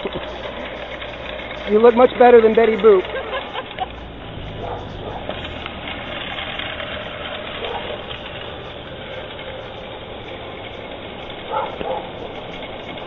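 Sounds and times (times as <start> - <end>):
reel mower blades whirring: 0.0 - 13.0.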